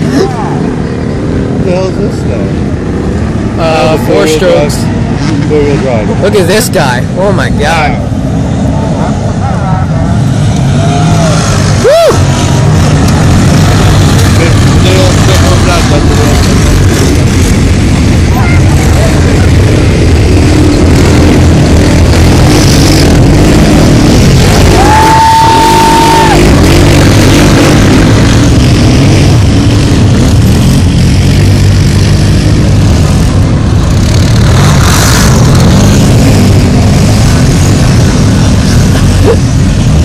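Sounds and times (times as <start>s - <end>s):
off-road engines revving: 0.0s - 40.0s.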